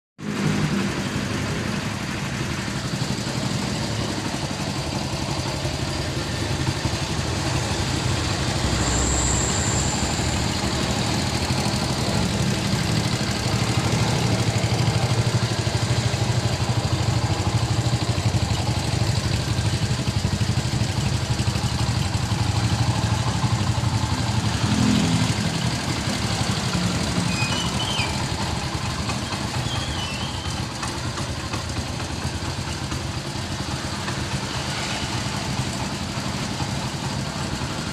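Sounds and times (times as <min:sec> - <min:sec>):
motorcycle engine idling: 0:00.8 - 0:37.9.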